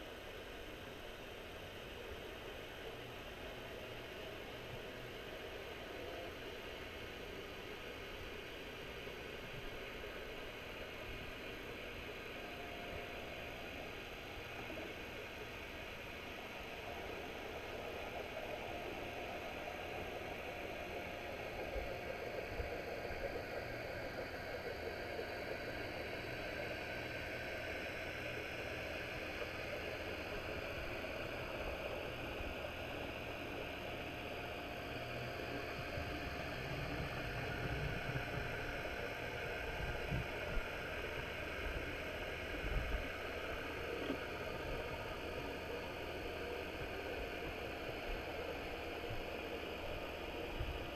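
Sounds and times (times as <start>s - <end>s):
underwater mechanical hum: 0.0s - 50.9s.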